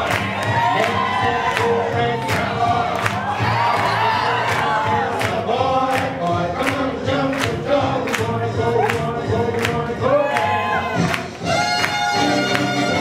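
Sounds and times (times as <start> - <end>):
swing jazz with singing: 0.0 - 13.0.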